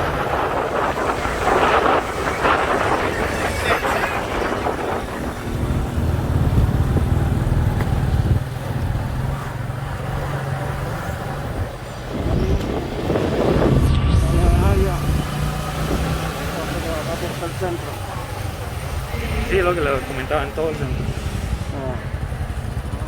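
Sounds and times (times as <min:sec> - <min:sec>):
low engine drone: 0:00.0 - 0:23.0
road and wind noise: 0:00.0 - 0:23.0.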